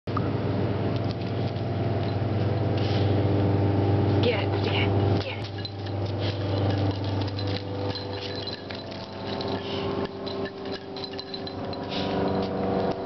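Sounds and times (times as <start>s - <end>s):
low hum: 0.1s - 13.0s.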